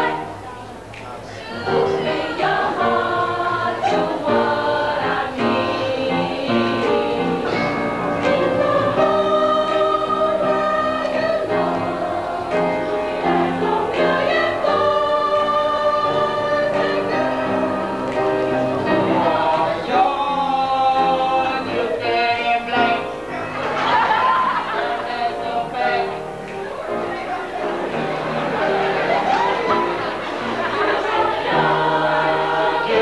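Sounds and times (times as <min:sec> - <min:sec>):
choir singing slow song: 0:00.0 - 0:00.6, 0:01.2 - 0:33.0.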